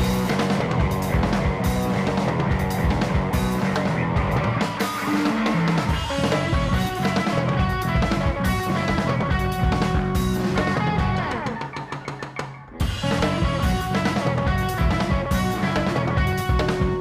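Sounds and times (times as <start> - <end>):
background music with guitar and drums: 0.0 - 17.0.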